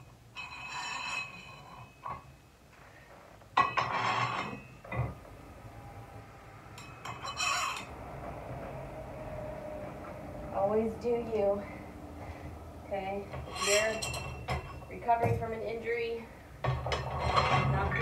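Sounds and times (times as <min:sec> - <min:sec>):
weight plates scraping and clanking: 0:00.3 - 0:05.3, 0:06.6 - 0:09.3, 0:09.9 - 0:18.0.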